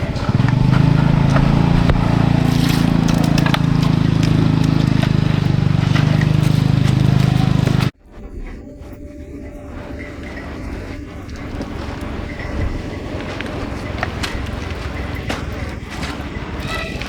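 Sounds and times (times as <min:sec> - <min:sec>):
small engine puttering: 0:00.0 - 0:08.0, 0:10.3 - 0:17.0.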